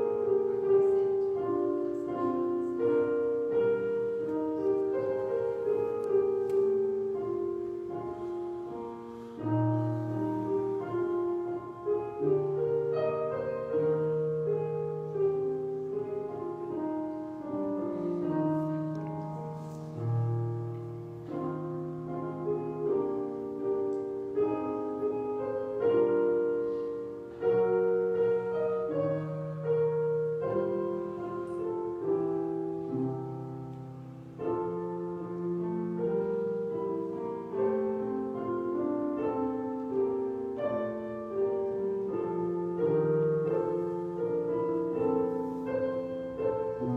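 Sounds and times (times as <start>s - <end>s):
slow piano chords: 0.0s - 46.9s.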